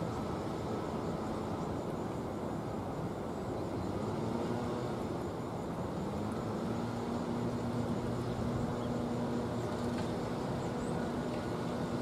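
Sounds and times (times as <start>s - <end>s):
locomotive engine hum: 0.0s - 12.0s.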